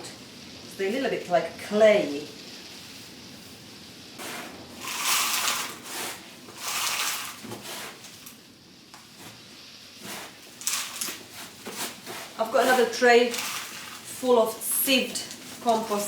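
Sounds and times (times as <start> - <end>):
compost rustling and scraping: 0.7 - 16.0.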